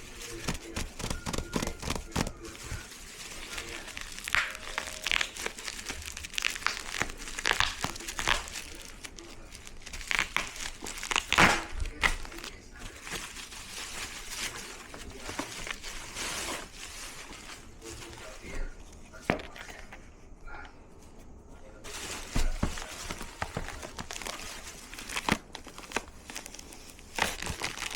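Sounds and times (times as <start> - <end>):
packaging crinkling and rustling: 0.0 - 20.2, 21.8 - 27.9.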